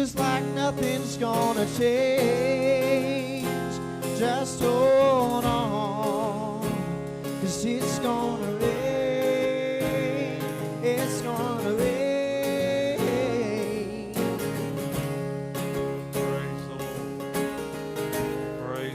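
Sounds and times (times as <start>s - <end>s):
person singing: 0.0s - 14.8s, 16.0s - 17.4s, 18.4s - 18.9s
acoustic guitar strumming: 0.0s - 18.9s.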